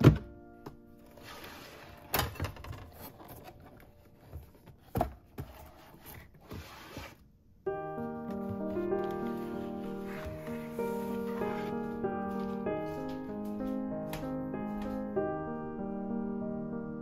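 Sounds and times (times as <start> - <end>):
background music: 0.0 - 4.5, 7.7 - 17.0.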